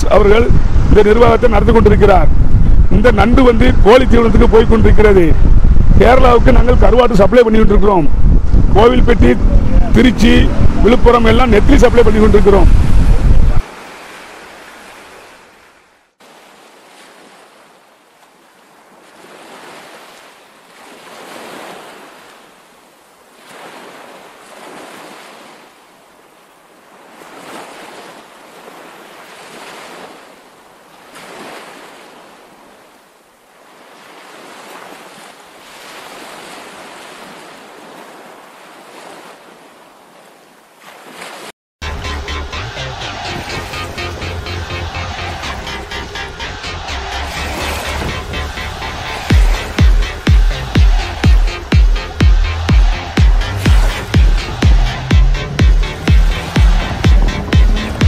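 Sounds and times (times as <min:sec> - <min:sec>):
sea surf rushing: 0:00.0 - 0:58.0
wind: 0:00.0 - 0:58.0.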